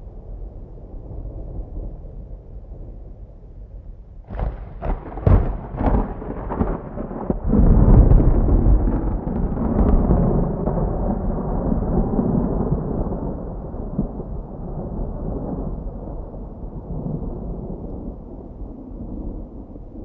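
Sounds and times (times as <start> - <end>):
rolling thunder rumble: 0.0 - 20.0.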